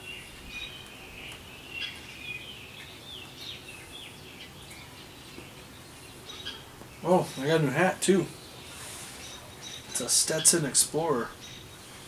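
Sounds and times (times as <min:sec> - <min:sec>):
faint steady background noise: 0:00.0 - 0:12.0
songbirds chirping and singing: 0:00.0 - 0:12.0.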